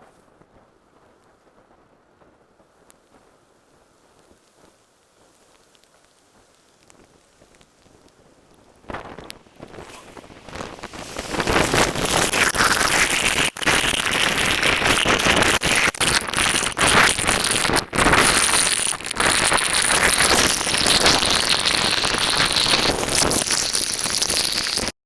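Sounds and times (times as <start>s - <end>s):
heavy rain and wind: 0.0s - 24.6s.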